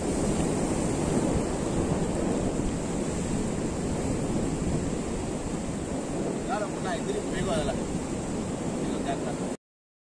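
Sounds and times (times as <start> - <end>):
surf washing against rocky shore: 0.0 - 9.6
wind rumbling on microphone: 0.0 - 9.6.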